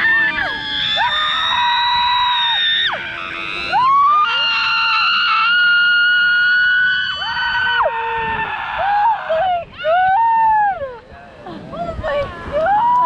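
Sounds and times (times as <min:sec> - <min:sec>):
people screaming together: 0:00.0 - 0:11.0, 0:12.2 - 0:13.0.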